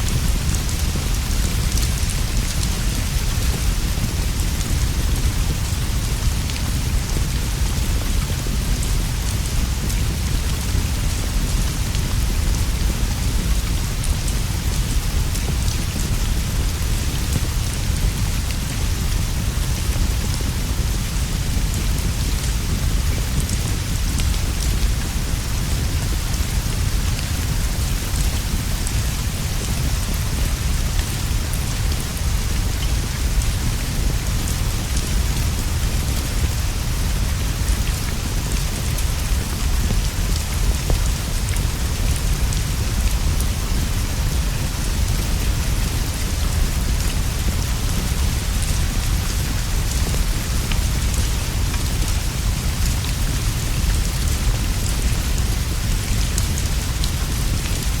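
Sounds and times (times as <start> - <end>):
rain on leaves and straw roof: 0.0 - 58.0.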